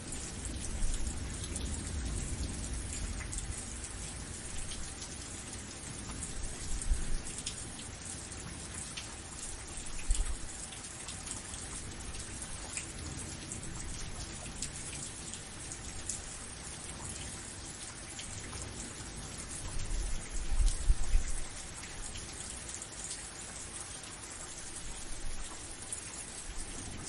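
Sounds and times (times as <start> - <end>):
rain hissing: 0.0 - 27.0
raindrops pattering on surface: 0.0 - 27.0.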